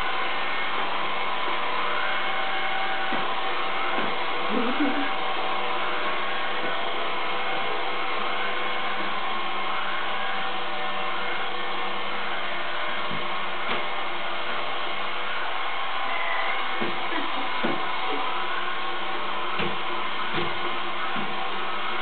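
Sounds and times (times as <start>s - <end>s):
robot vacuum cleaner running: 0.0s - 22.0s.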